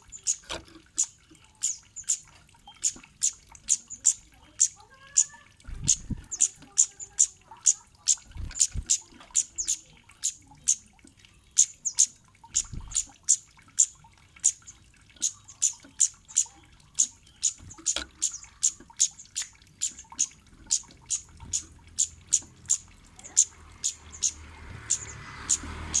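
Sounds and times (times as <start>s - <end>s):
bird chip calls: 0.1s - 10.9s, 11.5s - 26.0s.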